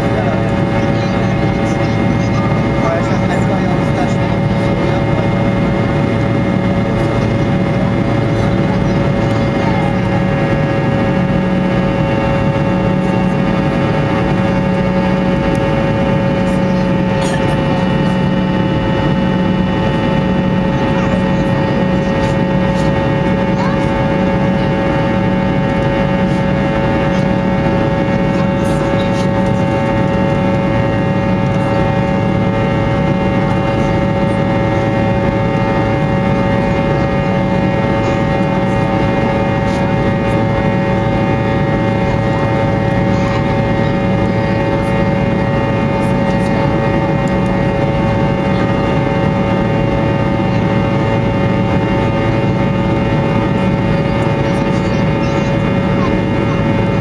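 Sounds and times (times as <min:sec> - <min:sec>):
fan tone whine: 0:00.0 - 0:57.0
jet engine cabin drone: 0:00.0 - 0:57.0.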